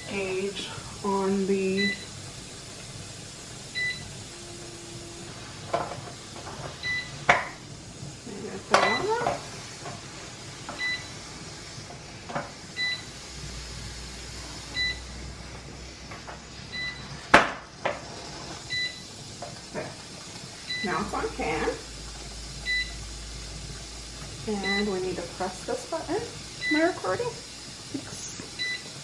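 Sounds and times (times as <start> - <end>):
pressure canner beeping: 0.0 - 11.4, 12.0 - 13.3, 14.5 - 29.0.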